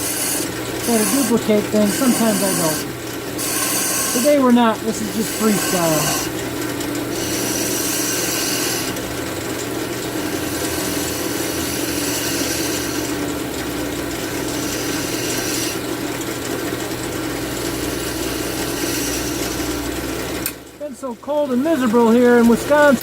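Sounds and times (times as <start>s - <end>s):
lathe motor humming: 0.0s - 23.0s
tool scraping spinning wood: 0.0s - 23.0s.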